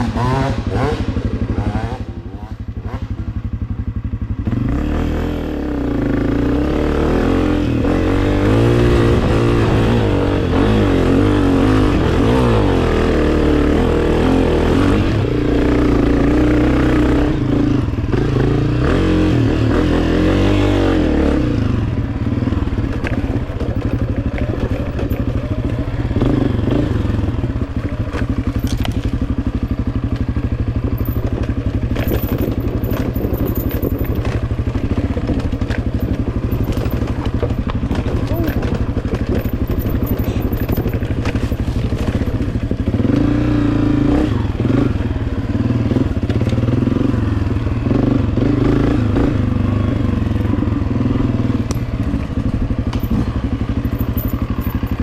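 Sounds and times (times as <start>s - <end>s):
two-stroke dirt bike engine: 0.0s - 55.0s.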